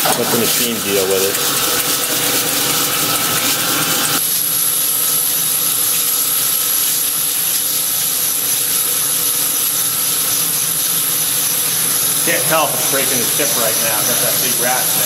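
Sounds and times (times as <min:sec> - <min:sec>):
coolant spray and cutting hiss: 0:00.0 - 0:15.0
thin high whine: 0:02.0 - 0:15.0.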